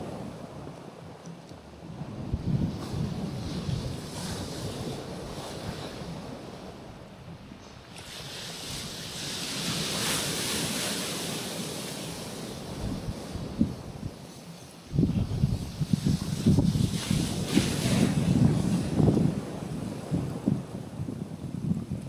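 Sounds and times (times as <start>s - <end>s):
waves breaking on rocky shore: 0.0s - 22.0s
wind buffeting microphone: 0.0s - 22.0s.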